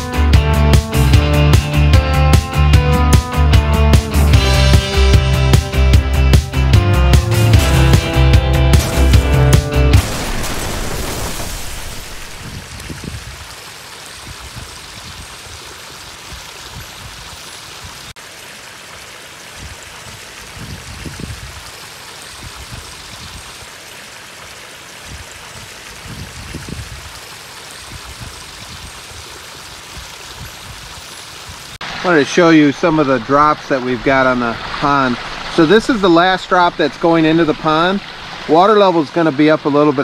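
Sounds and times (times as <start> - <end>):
water splashing over rocks: 7.3 - 40.0.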